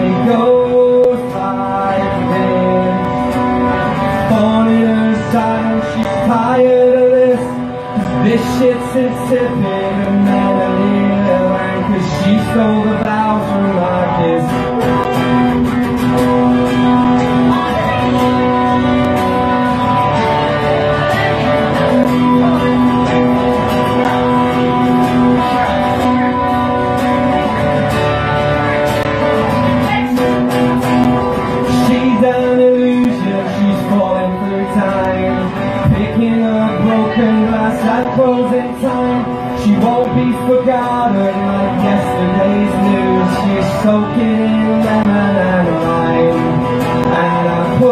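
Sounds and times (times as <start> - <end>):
acoustic guitar strumming: 0.0 - 47.9
man singing: 0.0 - 47.9.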